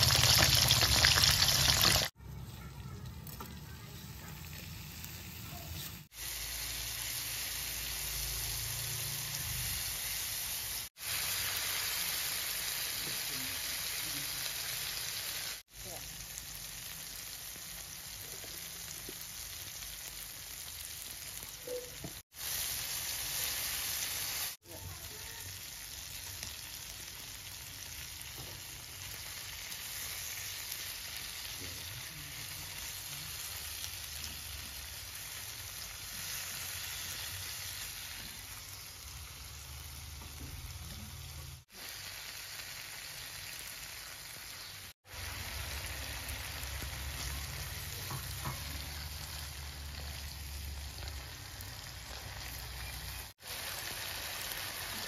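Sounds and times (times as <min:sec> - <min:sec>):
sauce sizzling in oil: 0:00.0 - 0:02.5, 0:03.9 - 0:55.0.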